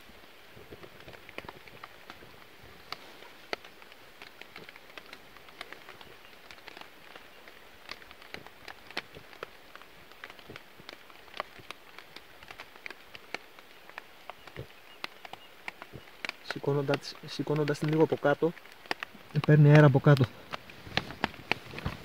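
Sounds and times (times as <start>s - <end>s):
rain pattering on a tarp: 0.0s - 22.0s.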